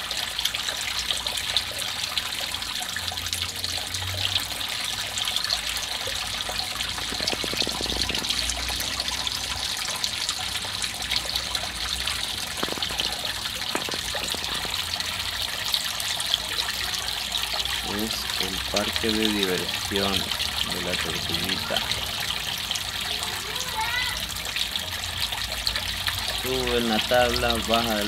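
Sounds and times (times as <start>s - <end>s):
water trickling into pond: 0.0s - 28.0s.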